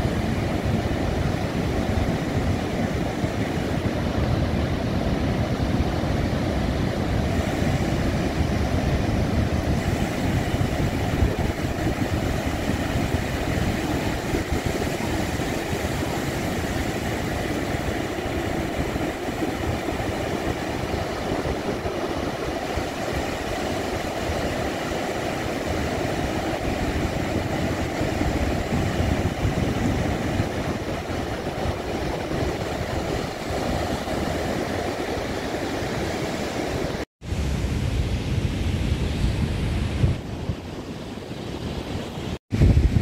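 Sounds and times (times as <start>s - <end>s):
ocean waves breaking: 0.0s - 43.0s
wind rumble on microphone: 0.0s - 43.0s.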